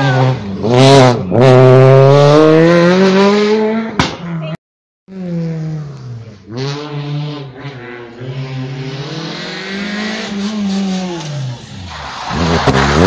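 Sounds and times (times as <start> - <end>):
rally car engine revving hard: 0.0 - 4.0, 5.1 - 11.7
distant rally car engine: 0.0 - 13.0.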